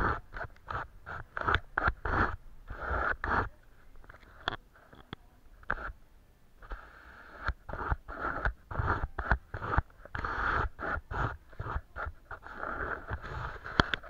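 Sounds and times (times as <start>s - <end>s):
paintbrush strokes on paper: 0.0s - 4.9s, 5.6s - 6.0s, 6.6s - 14.0s.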